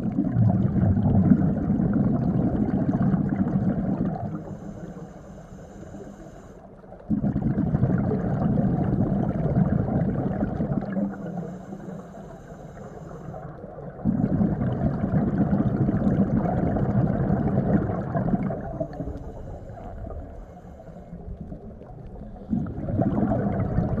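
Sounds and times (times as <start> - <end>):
exhaled bubbles burbling: 0.0 - 4.5, 6.8 - 11.8, 13.2 - 20.5, 21.1 - 24.0
regulator breathing underwater: 2.6 - 24.0.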